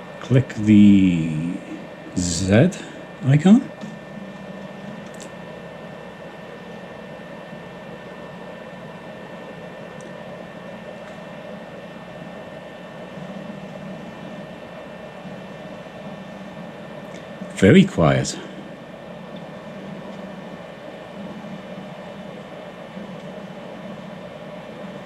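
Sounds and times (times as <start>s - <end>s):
printer motors humming: 0.0s - 25.0s.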